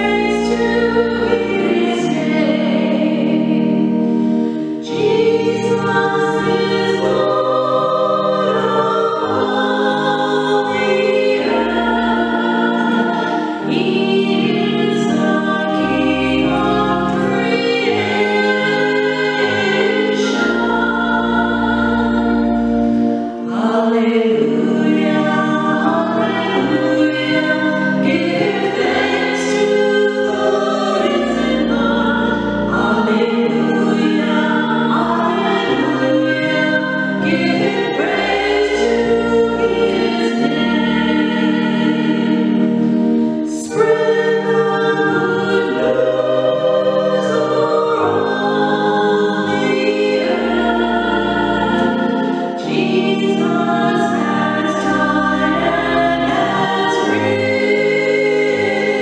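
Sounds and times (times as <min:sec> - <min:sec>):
choir singing sacred piece: 0:00.0 - 0:59.0.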